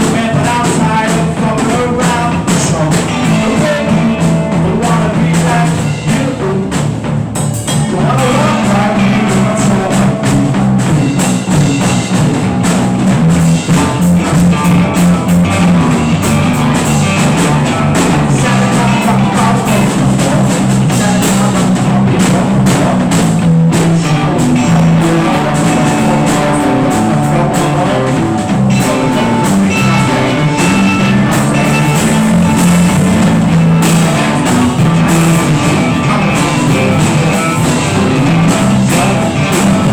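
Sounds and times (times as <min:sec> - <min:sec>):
rock band jamming: 0:00.0 - 0:39.9.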